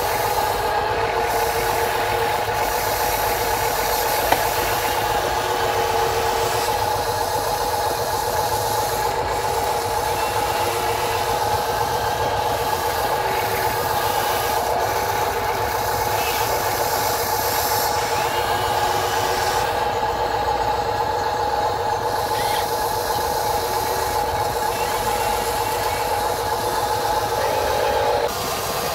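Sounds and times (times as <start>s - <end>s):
toy excavator motor humming: 0.0s - 28.9s.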